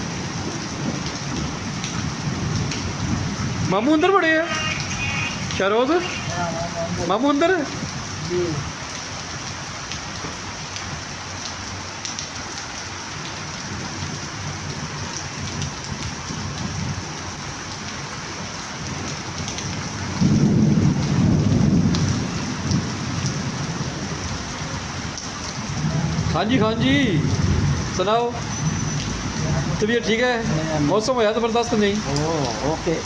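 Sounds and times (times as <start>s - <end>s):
rain pattering: 0.0s - 33.0s.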